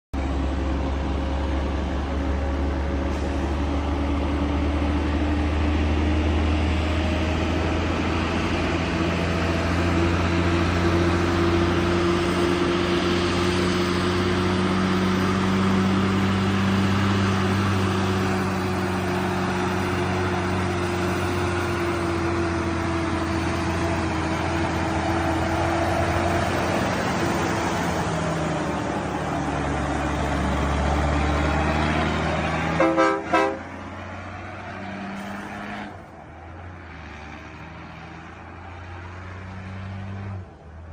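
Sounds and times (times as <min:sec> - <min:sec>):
truck diesel engine under load: 0:00.1 - 0:40.9.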